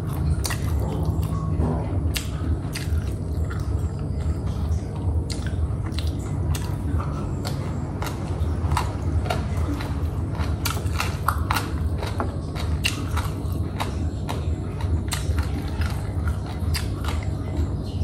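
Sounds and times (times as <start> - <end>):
mouth clicks and smacks: 0.0 - 17.8
person chewing food: 0.0 - 18.0
steady low rumble: 0.0 - 18.0.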